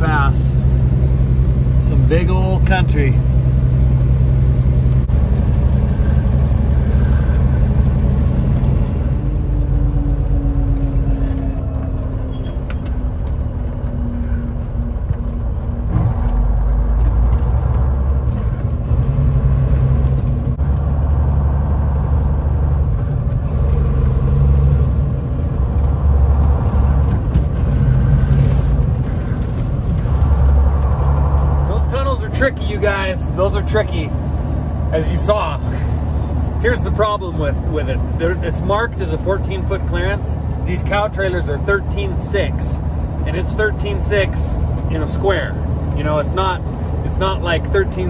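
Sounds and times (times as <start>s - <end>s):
road noise: 0.0s - 48.0s
truck diesel engine running: 0.0s - 48.0s.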